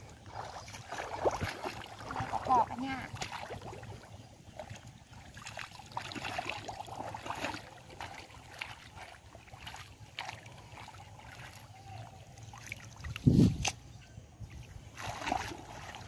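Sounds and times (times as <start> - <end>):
splashes and squelches in mud: 0.0 - 13.9, 14.5 - 16.0.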